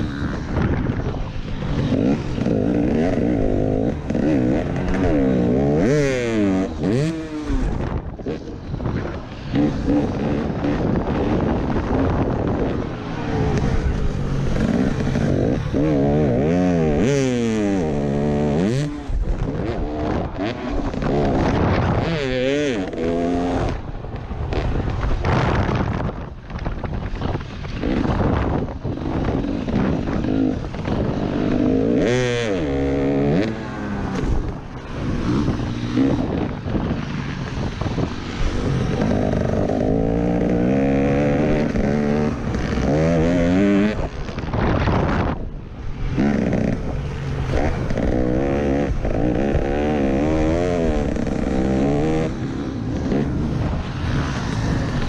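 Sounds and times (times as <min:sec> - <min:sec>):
motocross bike engine revving: 0:00.0 - 0:26.2, 0:26.8 - 0:55.0.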